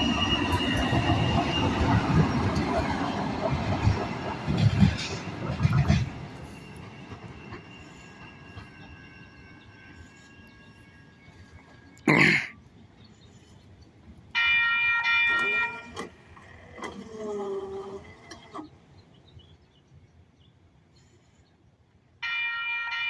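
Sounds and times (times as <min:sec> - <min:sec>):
light rail train whine: 0:00.0 - 0:23.0.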